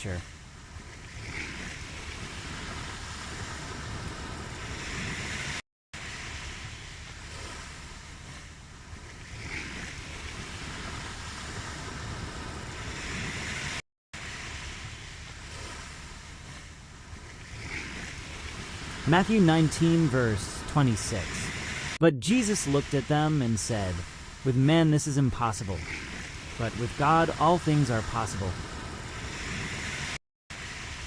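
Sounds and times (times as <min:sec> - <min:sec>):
ocean waves washing in: 0:00.0 - 0:31.0.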